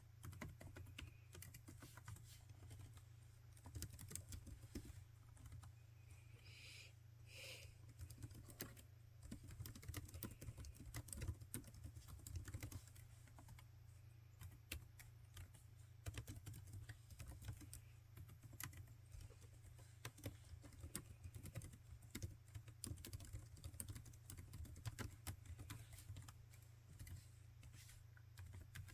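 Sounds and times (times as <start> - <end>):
laptop keyboard typing: 0.2 - 5.7, 7.8 - 13.7, 14.3 - 28.9.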